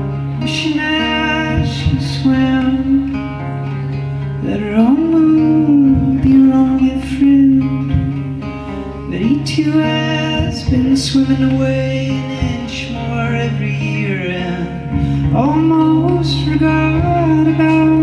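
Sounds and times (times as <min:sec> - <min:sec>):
guitar sliding notes: 0:00.0 - 0:18.0
live band playing: 0:00.0 - 0:18.0.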